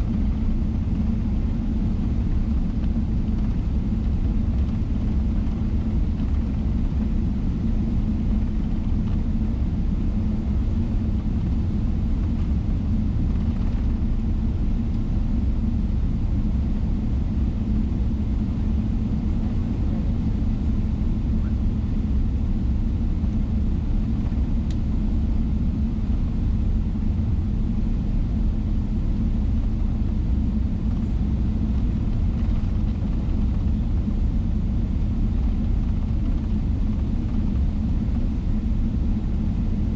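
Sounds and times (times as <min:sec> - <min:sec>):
airplane cabin low rumble: 0:00.0 - 0:39.9.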